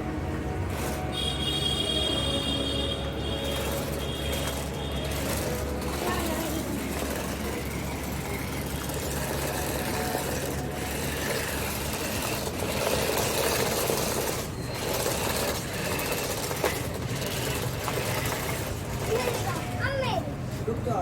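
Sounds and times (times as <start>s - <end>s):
toy car electric motors whirring: 0.7s - 20.2s.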